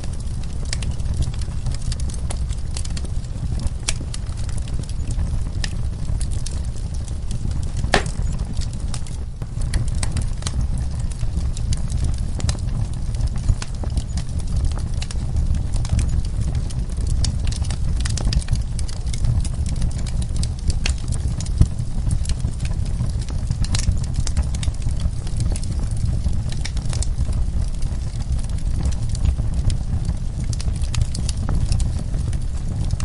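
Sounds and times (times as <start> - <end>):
fire flames rumbling: 0.0 - 33.0
logs crackling and popping: 0.0 - 33.0.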